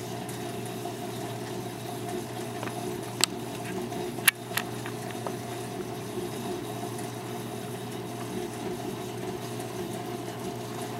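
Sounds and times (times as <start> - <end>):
aquarium pump circulating water: 0.0 - 10.9.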